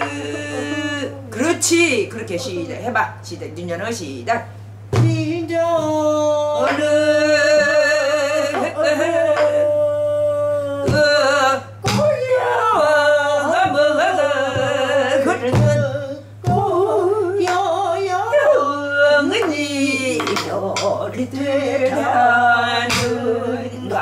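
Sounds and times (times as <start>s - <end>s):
woman singing with vibrato: 0.0s - 2.8s, 5.0s - 24.0s.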